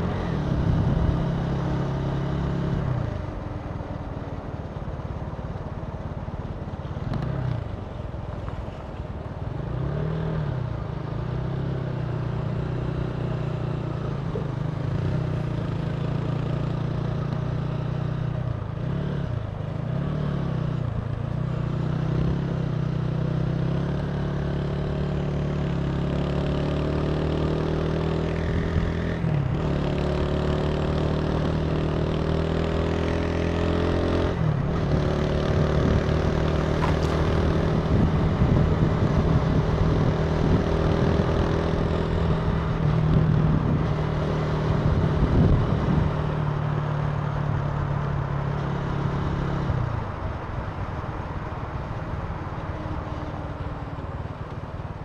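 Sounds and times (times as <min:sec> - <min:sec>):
motorcycle engine accelerating: 0:00.0 - 0:04.8, 0:09.6 - 0:55.0
wind and road noise: 0:00.0 - 0:55.0.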